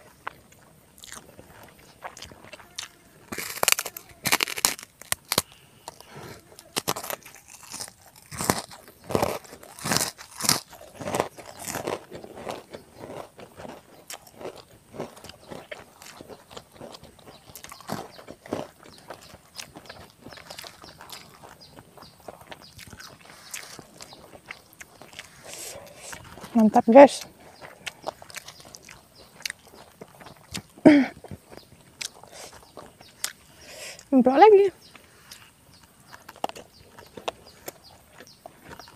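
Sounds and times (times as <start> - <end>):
crunching crisp cracker: 0.0 - 34.1, 34.8 - 38.9.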